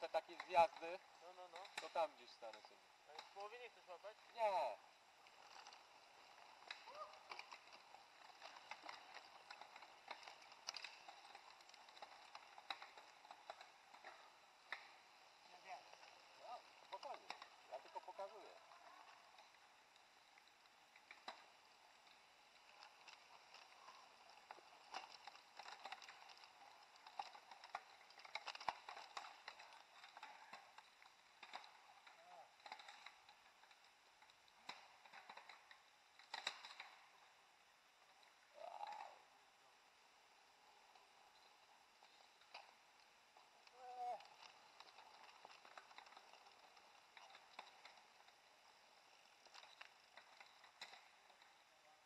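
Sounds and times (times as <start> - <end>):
mountain bikes clicking and rattling: 0.0 - 52.0.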